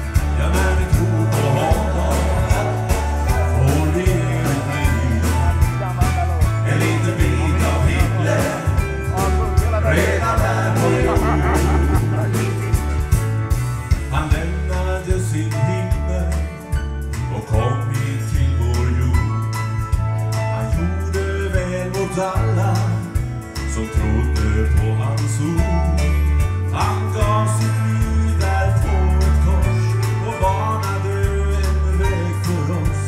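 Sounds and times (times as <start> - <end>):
bass line: 0.0 - 33.0
guitar: 0.0 - 33.0
live band playing country gospel: 0.0 - 33.0.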